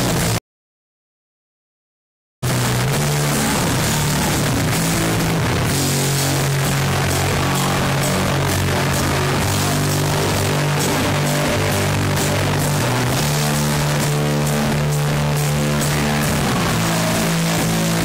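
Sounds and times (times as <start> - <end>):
distorted guitar chords: 0.0 - 0.4, 2.4 - 18.0
heavy metal band playing: 0.0 - 0.4, 2.4 - 18.0
drums and cymbals: 2.5 - 18.0.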